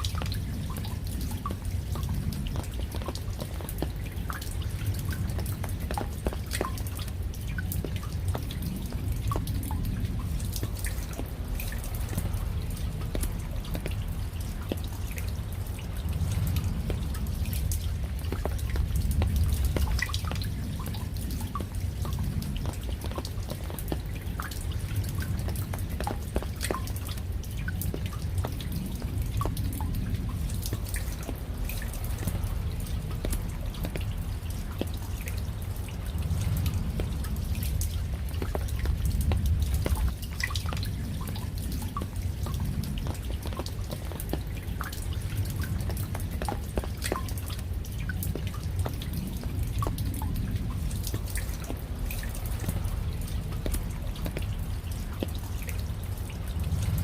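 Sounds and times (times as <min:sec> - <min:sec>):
raindrops dripping: 0:00.0 - 0:57.0
steady low rumble: 0:00.0 - 0:57.0.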